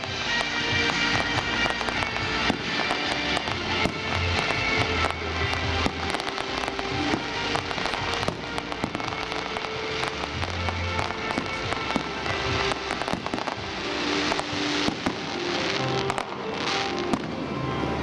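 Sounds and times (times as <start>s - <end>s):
fireworks bangs and crackles: 0.0s - 18.0s
music with held notes and bass: 0.0s - 18.0s.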